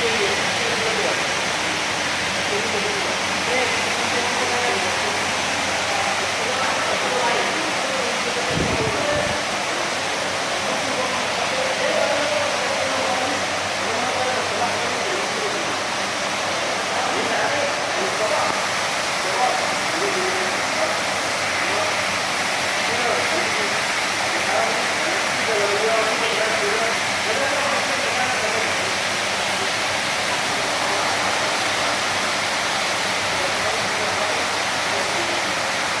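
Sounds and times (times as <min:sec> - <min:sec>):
water spray rushing: 0:00.0 - 0:36.0.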